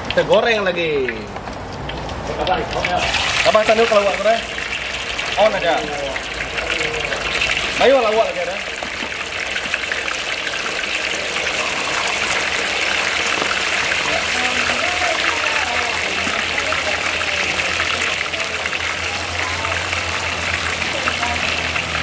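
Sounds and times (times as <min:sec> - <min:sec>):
fish deep-frying in hot oil: 0:00.0 - 0:22.0.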